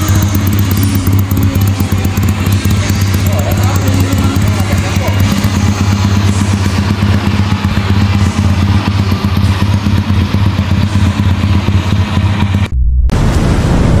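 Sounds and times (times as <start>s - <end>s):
motorcycle engine idling: 0.0s - 12.7s.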